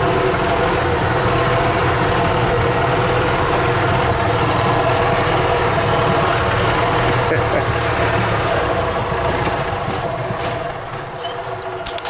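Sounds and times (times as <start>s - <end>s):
utility cart engine running: 0.0s - 12.0s.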